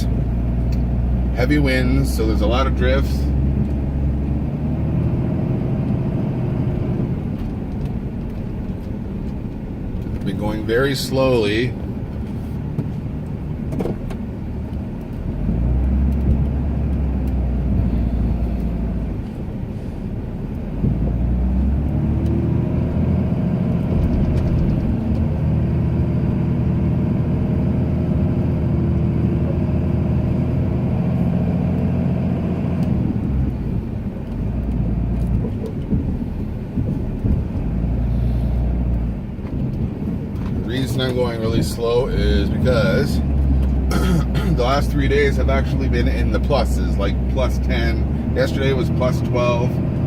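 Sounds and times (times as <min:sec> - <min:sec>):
pickup truck engine under load: 0:00.0 - 0:50.0.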